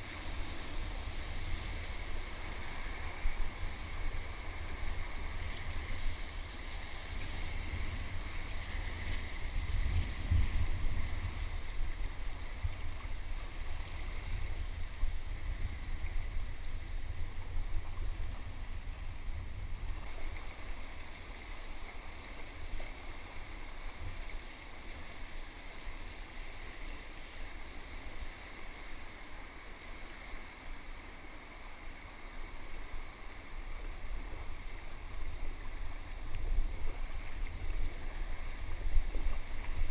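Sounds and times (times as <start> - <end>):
river water rushing and splashing: 0.0 - 39.9.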